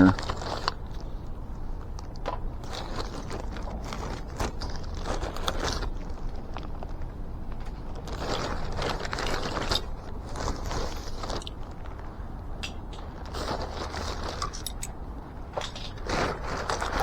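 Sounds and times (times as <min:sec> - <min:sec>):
plastic bags rustling: 0:00.0 - 0:17.0.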